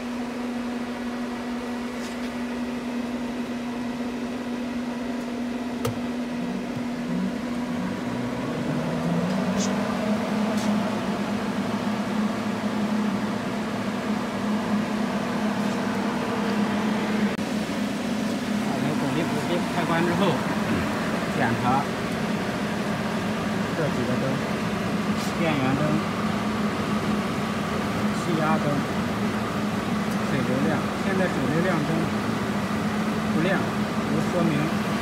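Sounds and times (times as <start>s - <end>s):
cooling fan whine: 0.0s - 35.0s
electrical machine hum: 0.0s - 35.0s.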